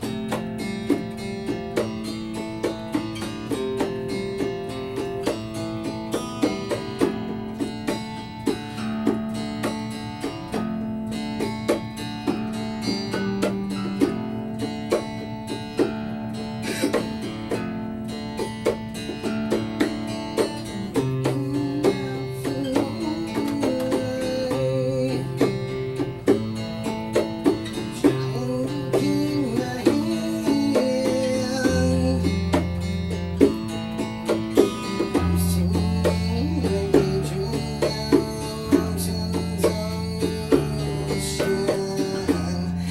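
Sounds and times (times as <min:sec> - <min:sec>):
bongos tapping a beat: 0:00.0 - 0:42.9
strummed acoustic guitar: 0:00.0 - 0:42.9.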